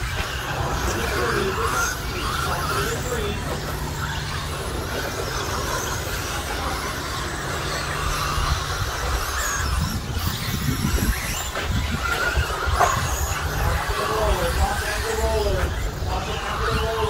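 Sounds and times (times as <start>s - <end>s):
rc truck motors whining: 0.0s - 17.0s.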